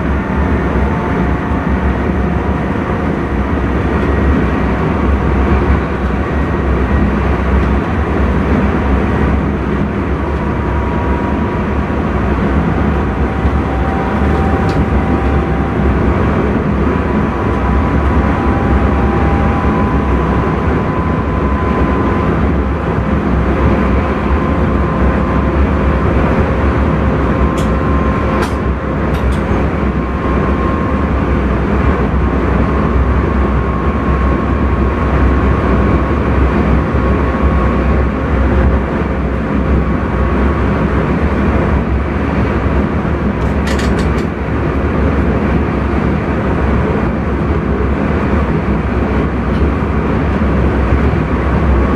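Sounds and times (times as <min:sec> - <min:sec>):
faint whining tones: 0:00.0 - 0:42.0
train running noise: 0:00.0 - 0:51.9.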